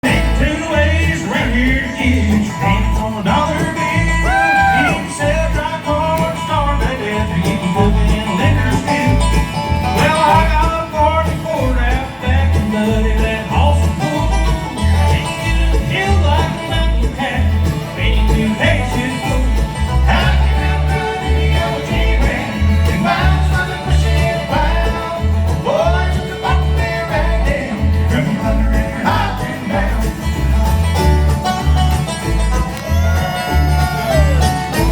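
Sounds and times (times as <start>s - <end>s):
banjo: 0.0s - 34.9s
bluegrass band playing: 0.0s - 34.9s.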